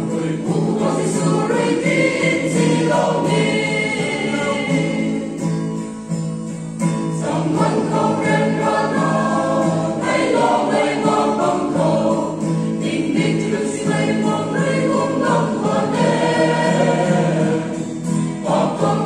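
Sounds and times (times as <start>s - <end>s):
choir singing a hymn: 0.0s - 5.8s, 6.9s - 19.0s
acoustic guitar: 0.0s - 19.0s.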